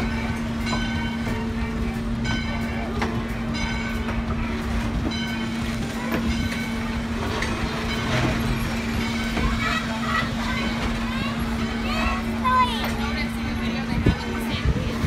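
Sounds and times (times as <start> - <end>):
steel wheels on rails: 0.0 - 15.0.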